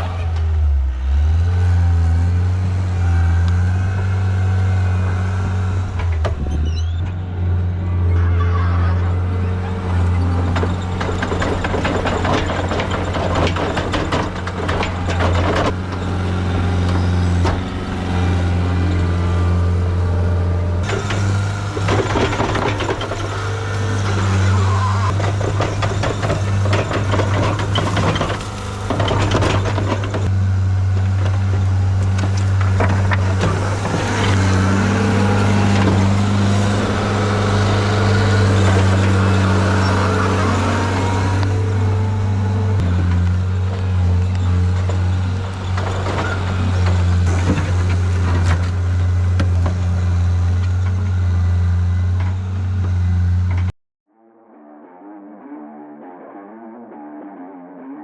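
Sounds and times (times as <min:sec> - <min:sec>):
diesel engine under load: 0:00.0 - 0:53.8
machine clattering and scraping: 0:03.0 - 0:53.7.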